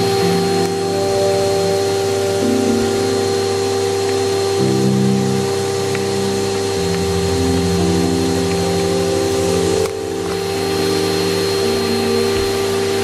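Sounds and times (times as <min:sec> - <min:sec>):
background music: 0:00.0 - 0:13.0
vacuum cleaner motor running: 0:00.0 - 0:13.0.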